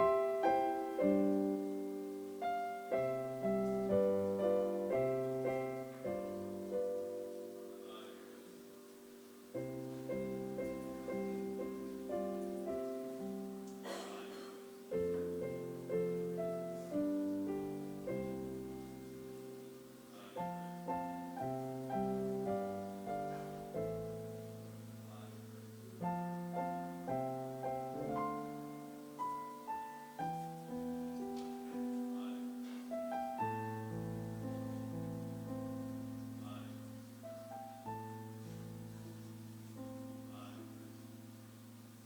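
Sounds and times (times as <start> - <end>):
piano playing slow chords: 0.0 - 42.0.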